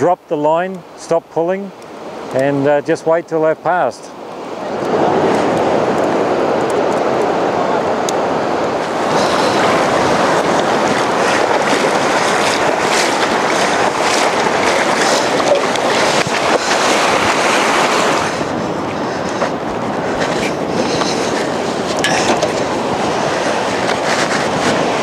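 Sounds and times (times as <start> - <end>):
surf breaking on beach: 1.5 - 25.0.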